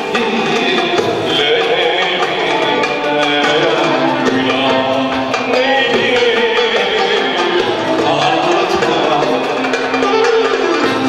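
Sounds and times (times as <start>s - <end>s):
hand percussion: 0.0s - 11.0s
man singing: 0.0s - 11.0s
violins: 0.0s - 11.0s.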